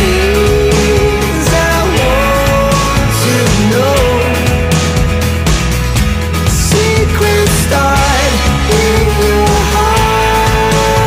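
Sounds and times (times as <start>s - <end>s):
person singing: 0.0s - 5.1s, 6.5s - 11.0s
rock band playing: 0.0s - 11.0s.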